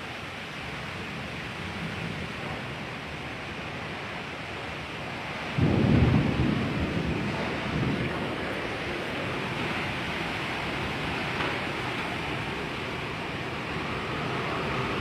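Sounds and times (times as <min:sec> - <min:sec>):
heavy rain: 0:00.0 - 0:15.0
strong wind: 0:00.0 - 0:15.0.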